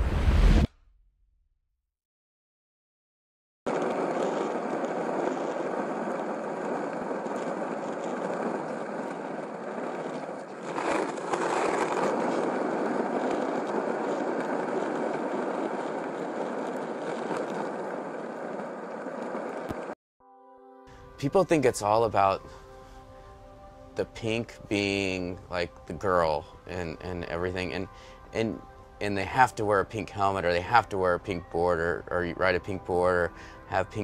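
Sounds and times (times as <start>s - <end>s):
skateboard wheels rolling on concrete: 3.7s - 20.0s, 20.9s - 34.0s.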